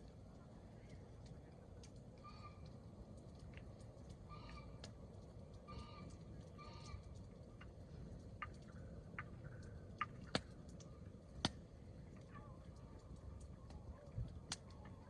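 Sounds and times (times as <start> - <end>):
campfire crackling and popping: 0.0 - 15.0
low steady fire rush: 0.0 - 15.0.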